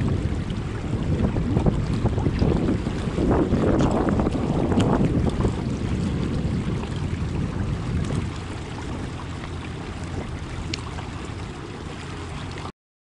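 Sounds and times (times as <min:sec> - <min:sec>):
water lapping against boat: 0:00.0 - 0:12.7
wind buffeting microphone: 0:00.0 - 0:12.7.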